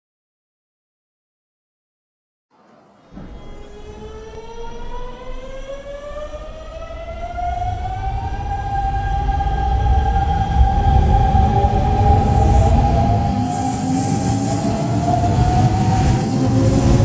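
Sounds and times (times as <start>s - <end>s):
electric train motors whining: 2.6s - 17.0s
train rumbling on rails: 2.8s - 17.0s.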